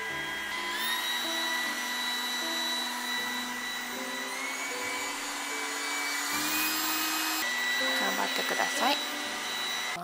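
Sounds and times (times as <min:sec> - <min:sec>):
robot vacuum motor whine: 0:00.0 - 0:10.0.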